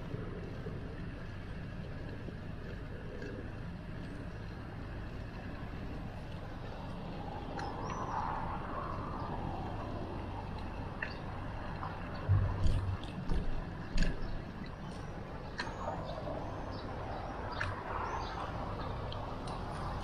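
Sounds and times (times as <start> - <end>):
bicycle riding rumble: 0.0 - 20.0
street traffic: 0.0 - 20.0.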